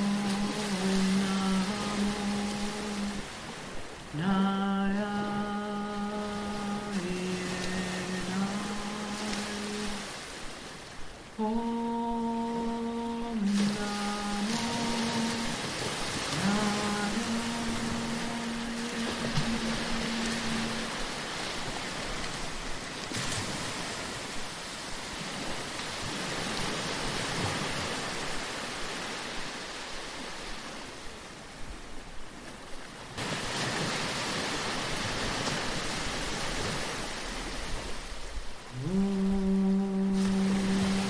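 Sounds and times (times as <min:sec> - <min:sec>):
sea surf washing in: 0:00.0 - 0:41.0.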